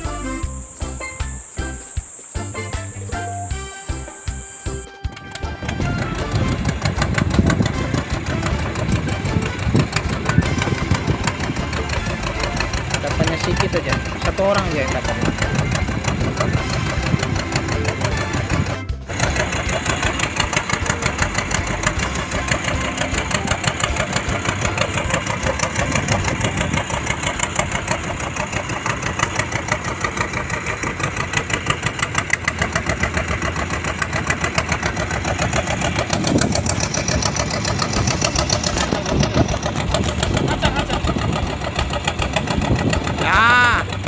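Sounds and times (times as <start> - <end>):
boat engine knocking: 0.0 - 44.0.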